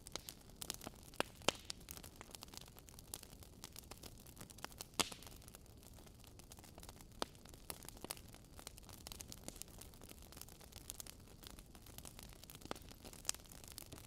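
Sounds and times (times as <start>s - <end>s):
faint fire hiss: 0.0s - 14.0s
logs crackling and popping: 0.0s - 14.0s.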